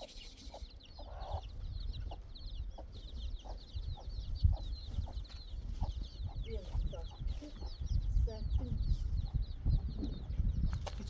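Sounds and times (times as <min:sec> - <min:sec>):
chickens clucking: 0:00.0 - 0:11.0
chicks cheeping: 0:00.0 - 0:11.0.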